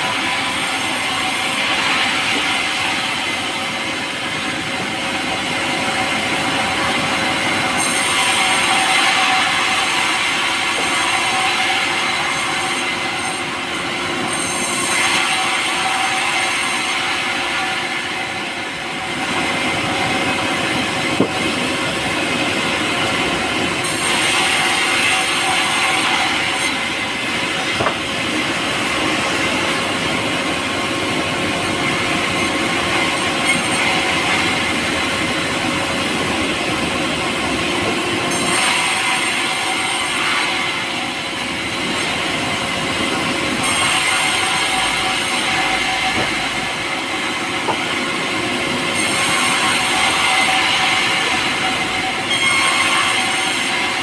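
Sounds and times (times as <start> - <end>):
power saw cutting wood: 0.0 - 54.0.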